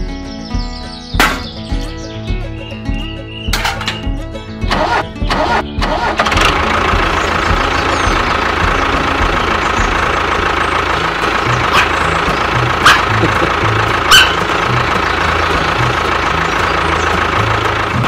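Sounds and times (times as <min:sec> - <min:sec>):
tractor engine running: 0:00.5 - 0:18.0.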